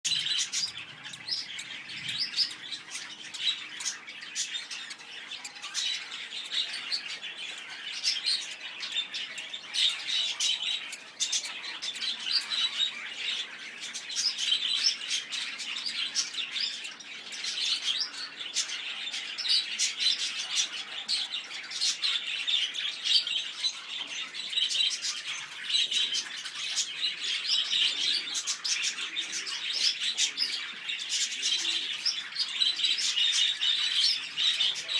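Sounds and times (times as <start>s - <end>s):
lovebirds chattering: 0.1s - 34.9s.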